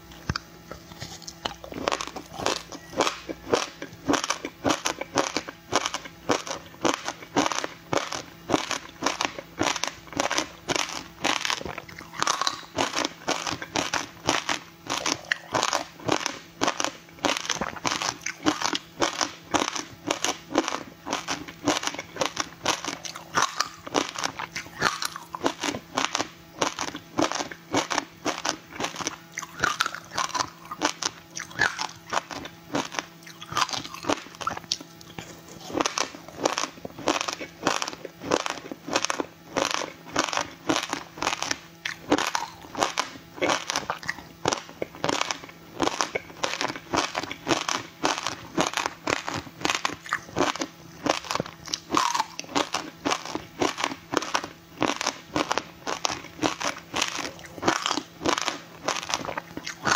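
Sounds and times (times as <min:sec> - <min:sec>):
icy crunching bites: 0:00.0 - 0:59.9.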